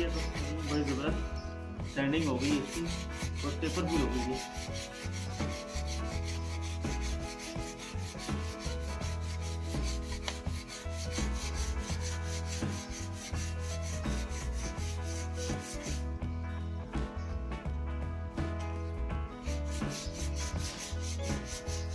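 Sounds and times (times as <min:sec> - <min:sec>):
sandpaper rubbing on wood: 0:00.0 - 0:01.2, 0:01.9 - 0:16.0, 0:19.6 - 0:21.9.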